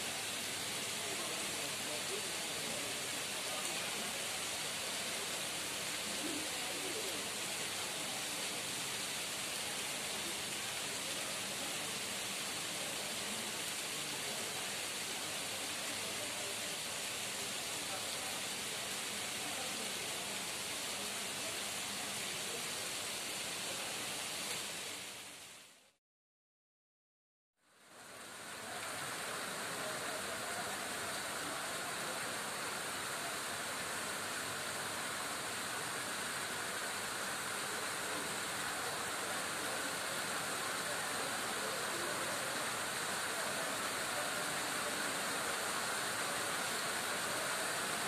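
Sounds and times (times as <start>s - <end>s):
steady hiss: 0.0s - 26.0s, 27.6s - 48.0s.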